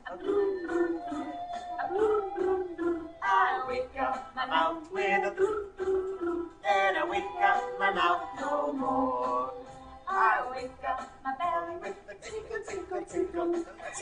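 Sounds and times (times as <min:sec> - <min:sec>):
group singing a children's song: 0:00.0 - 0:14.0.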